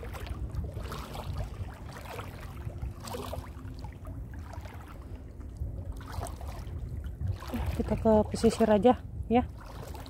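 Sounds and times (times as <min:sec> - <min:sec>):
seawater sloshing: 0:00.0 - 0:10.0
water splashes: 0:00.0 - 0:10.0
wind rumbling on microphone: 0:00.0 - 0:10.0.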